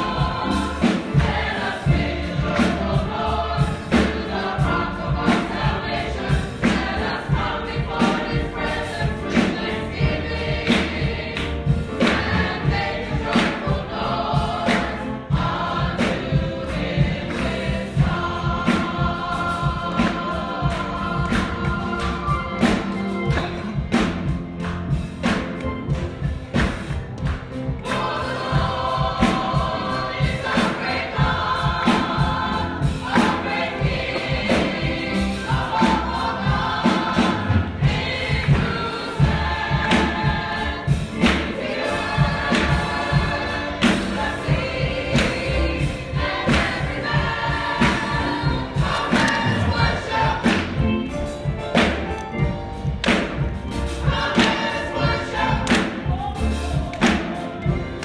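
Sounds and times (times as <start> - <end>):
backing instruments with steady beat: 0.0 - 58.0
church band playing: 0.0 - 58.0
congregation singing gospel song: 0.0 - 58.0
drum kit strikes: 0.0 - 58.0.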